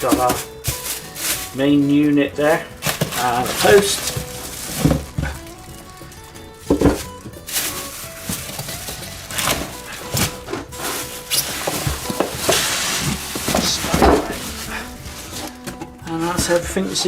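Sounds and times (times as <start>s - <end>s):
packing material rustling: 0.0s - 17.0s.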